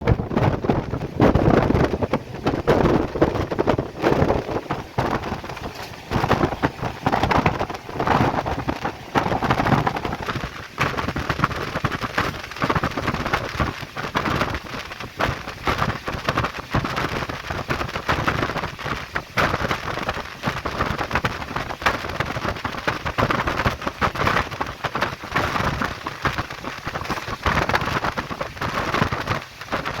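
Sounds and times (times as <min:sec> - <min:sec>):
train knocks and clatter: 0:00.0 - 0:30.0
train rushing at high speed: 0:00.0 - 0:30.0.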